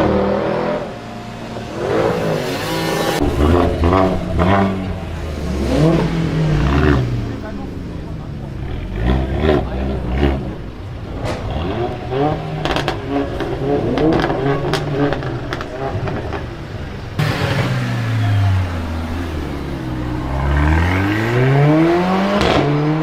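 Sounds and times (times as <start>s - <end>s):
car engine with loud exhaust: 0.0s - 23.0s.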